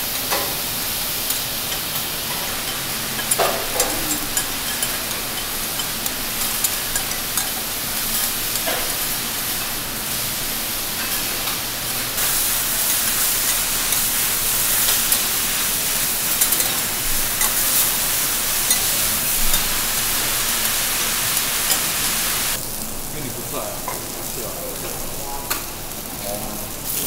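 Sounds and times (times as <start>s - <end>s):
greens sizzling on a griddle: 0.0s - 27.0s.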